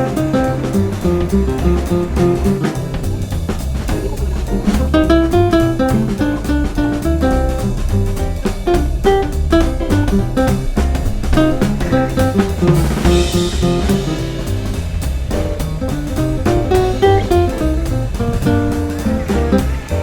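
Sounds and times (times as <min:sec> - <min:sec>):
jazzy instrumental music: 0:00.0 - 0:20.0.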